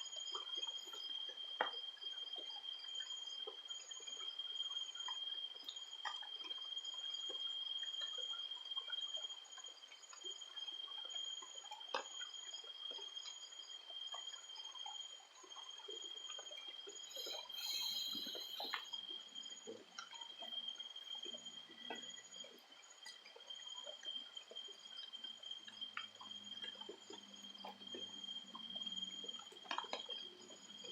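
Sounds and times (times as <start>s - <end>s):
insects trilling: 0.1s - 30.9s.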